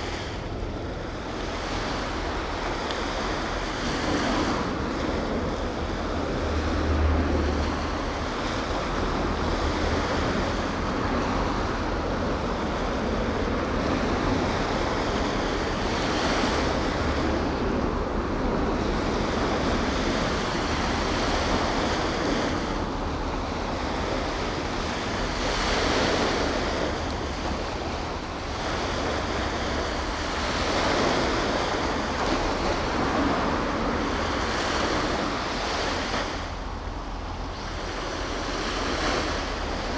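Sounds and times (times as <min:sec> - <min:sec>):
harbour water washing: 0:00.0 - 0:39.9
wind rushing over microphone: 0:00.0 - 0:39.9.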